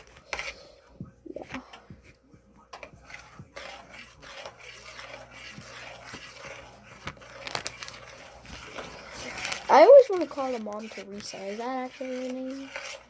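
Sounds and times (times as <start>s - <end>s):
soft rubbing: 0.0s - 13.0s.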